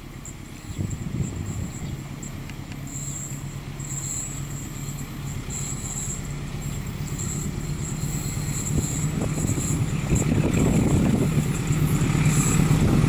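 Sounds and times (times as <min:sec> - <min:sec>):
locomotive engine hum: 0:00.0 - 0:13.0.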